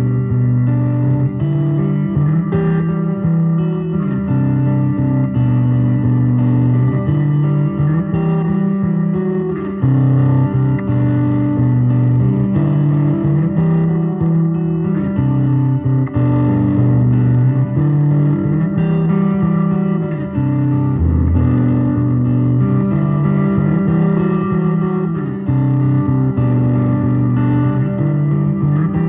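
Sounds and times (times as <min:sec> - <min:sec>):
electric guitar notes and chords: 0:00.0 - 0:29.0.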